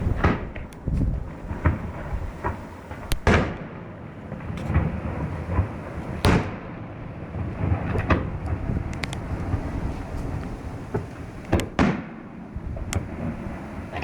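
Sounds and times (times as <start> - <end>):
firework bangs: 0.0 - 14.0
low rumble: 0.0 - 14.0.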